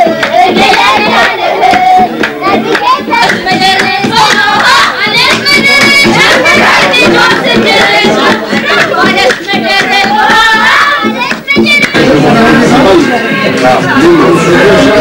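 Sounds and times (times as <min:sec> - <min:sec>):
crowd clapping in rhythm: 0:00.0 - 0:15.0
crowd singing: 0:00.0 - 0:15.0.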